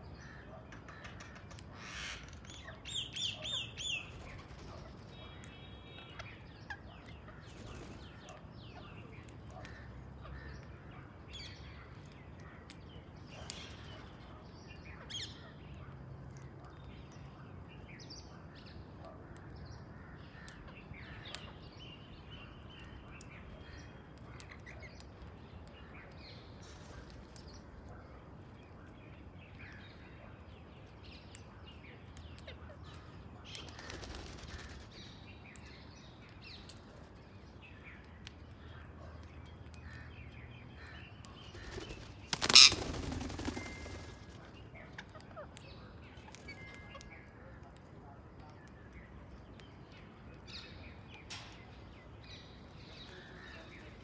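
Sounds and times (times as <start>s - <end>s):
wild birds chirping: 0.0s - 54.0s.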